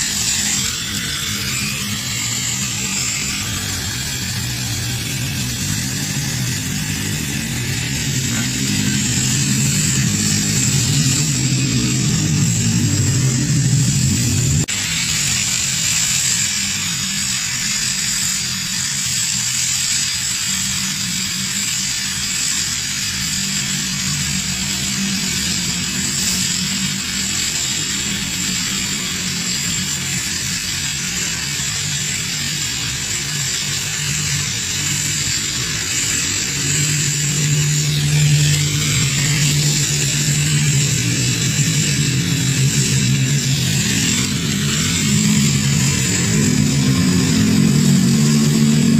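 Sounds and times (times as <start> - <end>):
gas torch flame hissing: 0.0 - 48.9.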